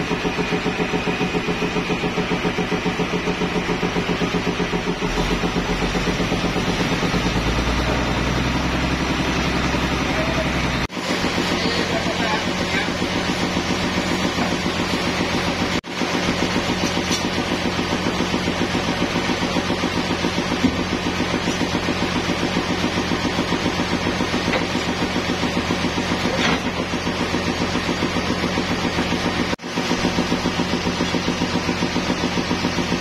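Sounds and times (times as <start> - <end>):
sawmill engine running: 0.0 - 33.0.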